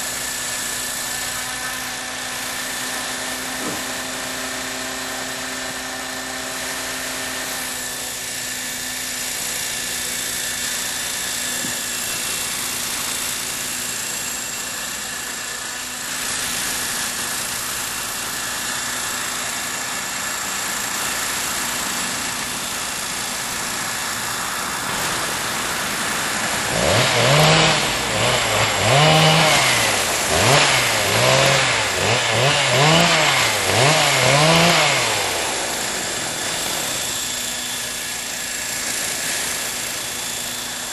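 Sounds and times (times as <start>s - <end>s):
model helicopter motor whine: 0.0s - 40.9s.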